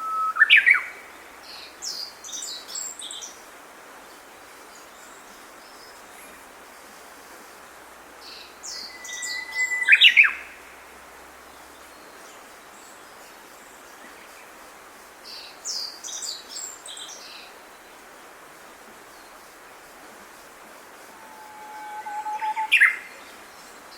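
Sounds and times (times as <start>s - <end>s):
songbird singing chirps and sweeps: 0.0s - 23.9s
steady background hiss: 0.0s - 23.9s.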